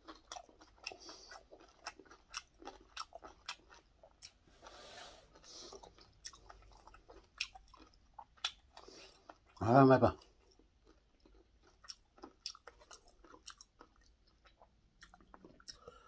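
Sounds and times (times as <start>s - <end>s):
person chewing food: 0.0s - 9.6s, 10.2s - 16.0s.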